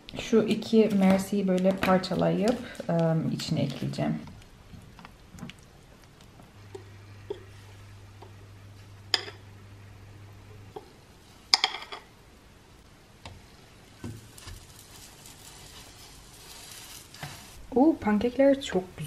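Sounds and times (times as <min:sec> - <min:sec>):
pancake batter faint sizzle: 0:00.1 - 0:19.0.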